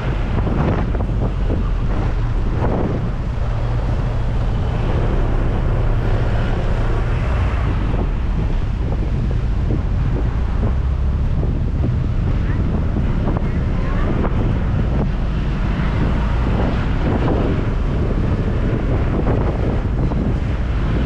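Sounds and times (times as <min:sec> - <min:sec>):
scooter engine humming: 0:00.0 - 0:20.8
road noise: 0:00.0 - 0:21.0
wind buffeting microphone: 0:00.0 - 0:21.0.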